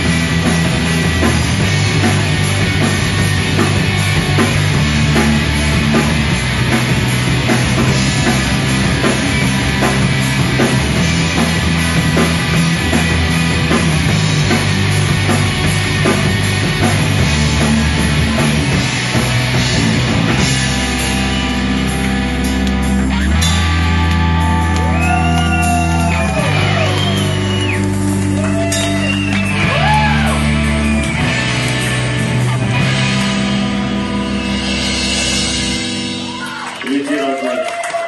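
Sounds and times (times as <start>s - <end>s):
drum kit: 0.0s - 37.2s
electric guitars: 0.0s - 38.0s.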